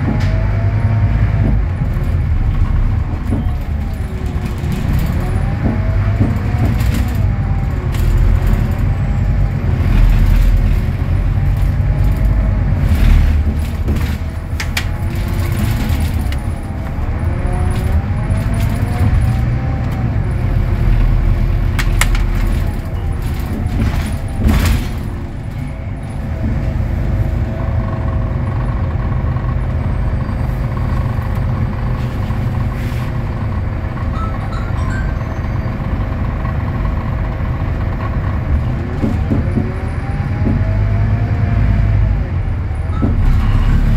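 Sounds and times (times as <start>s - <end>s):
bus engine and gearbox whine: 0.0s - 43.9s
road rumble: 0.0s - 43.9s.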